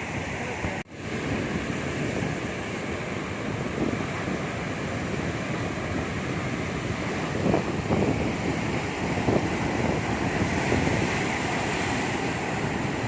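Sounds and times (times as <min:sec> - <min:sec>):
ocean waves washing: 0:00.0 - 0:13.0
wind rumbling on microphone: 0:00.0 - 0:13.0.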